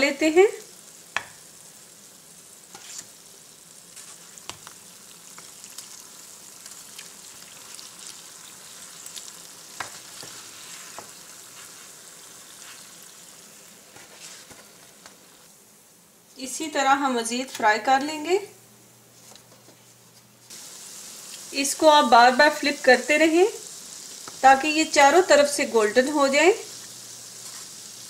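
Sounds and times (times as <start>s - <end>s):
doughnuts sizzling in oil: 0.0s - 18.5s, 20.3s - 28.0s.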